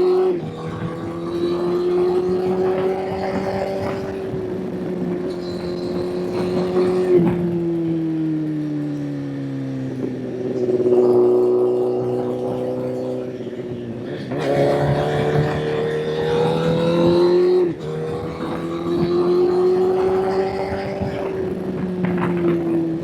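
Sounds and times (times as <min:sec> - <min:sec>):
motorcycle engine while riding: 0:00.0 - 0:23.0.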